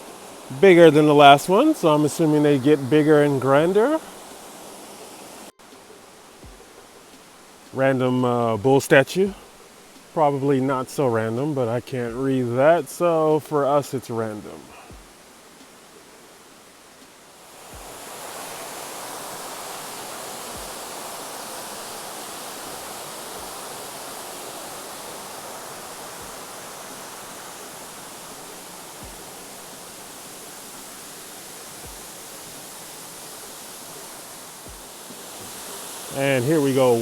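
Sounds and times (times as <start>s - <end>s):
mountain river rushing: 0.0s - 37.0s.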